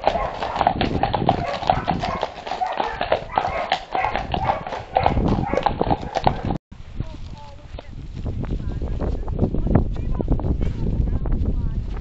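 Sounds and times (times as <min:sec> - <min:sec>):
horse hooves on concrete: 0:00.0 - 0:12.0.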